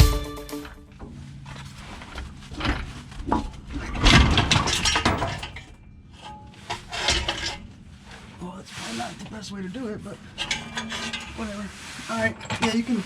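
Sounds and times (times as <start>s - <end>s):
metallic clanks and scrapes: 0.6s - 9.4s, 10.2s - 13.0s.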